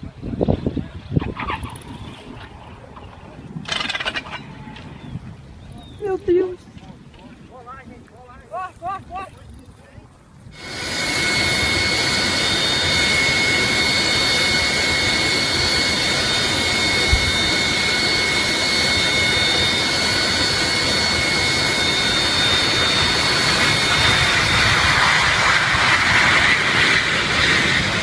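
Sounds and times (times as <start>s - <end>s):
jet engines whining: 0.0s - 6.4s, 10.0s - 28.0s.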